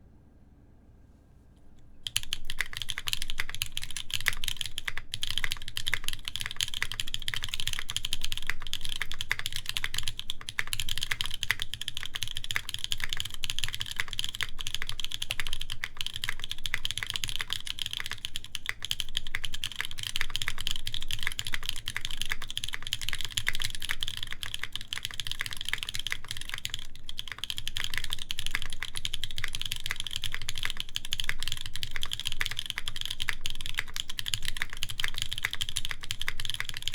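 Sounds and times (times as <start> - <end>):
fast typing on mechanical keyboard: 2.0 - 36.9.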